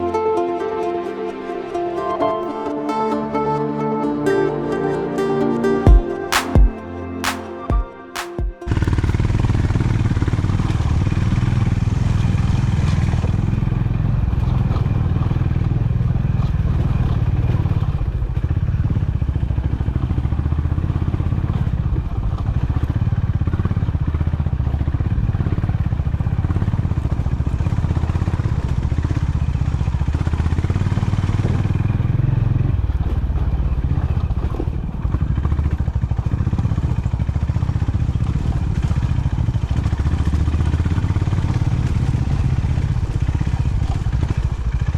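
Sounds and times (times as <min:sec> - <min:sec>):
motorcycle engine running: 0:08.7 - 0:44.9.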